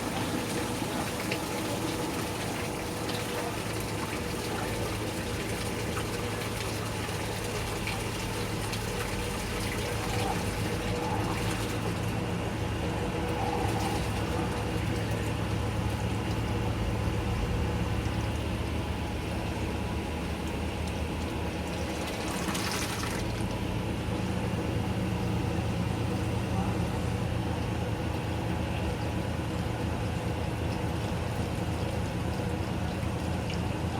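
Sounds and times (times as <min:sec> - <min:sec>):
washing machine motor hum: 0:00.0 - 0:33.9
water rushing and pumping: 0:00.0 - 0:33.9.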